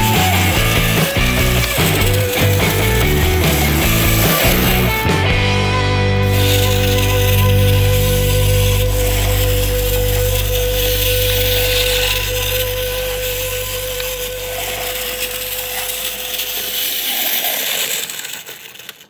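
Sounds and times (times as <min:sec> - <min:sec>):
toy train clockwork whirring: 0:00.0 - 0:05.2, 0:06.2 - 0:19.0
background music: 0:00.0 - 0:16.4.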